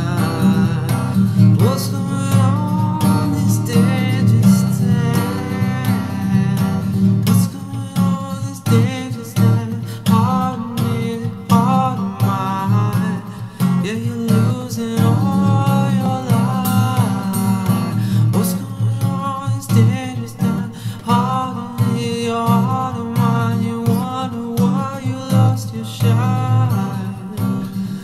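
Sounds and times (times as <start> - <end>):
guitar-backed song with heavy bass: 0.0 - 28.0.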